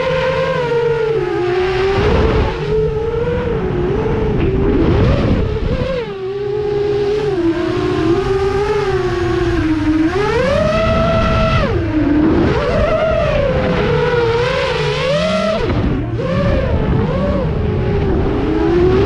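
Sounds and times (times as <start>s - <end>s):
drone motors and propellers whining: 0.0s - 19.0s.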